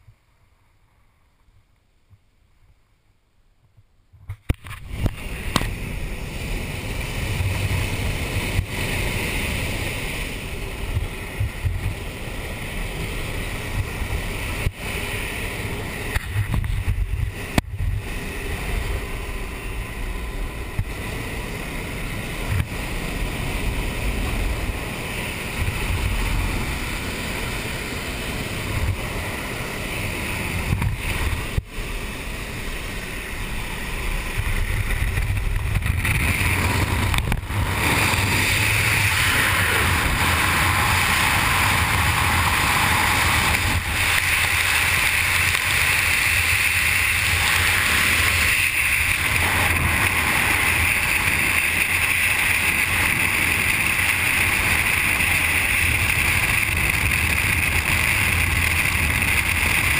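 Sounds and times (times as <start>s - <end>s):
wind rushing over microphone: 3.7s - 59.9s
airplane engine in cabin: 4.4s - 59.9s.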